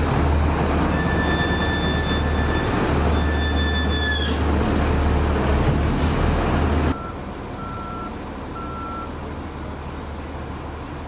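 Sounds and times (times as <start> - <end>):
heavy engine humming: 0.0 - 11.0.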